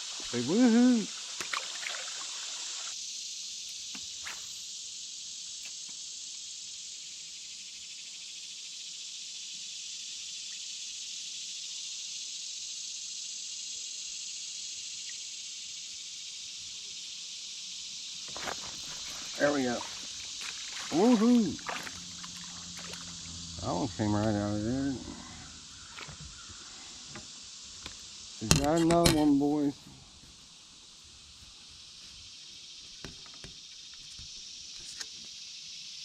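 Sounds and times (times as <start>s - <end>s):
insect chorus hissing: 0.0s - 36.0s.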